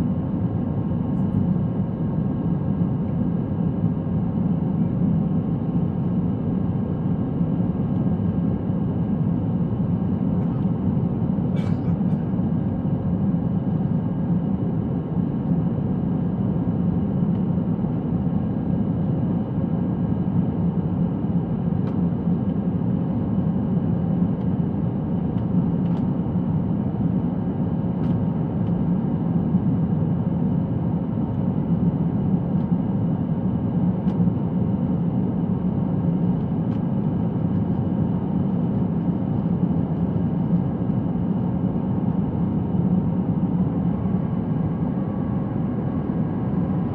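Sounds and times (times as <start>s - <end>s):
engine and airflow rumble: 0.0s - 46.9s.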